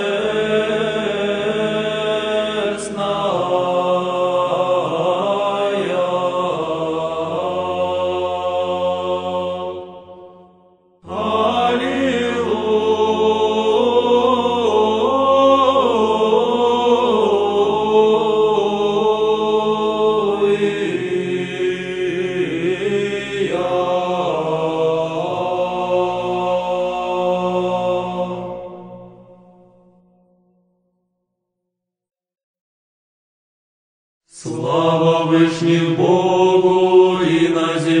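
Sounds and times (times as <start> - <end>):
male choir chanting: 0.0 - 29.2, 34.3 - 38.0.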